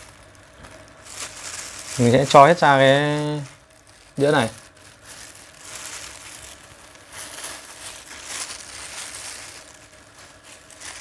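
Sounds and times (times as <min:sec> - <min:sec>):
plastic glove and napkins rustling: 0:00.0 - 0:11.0.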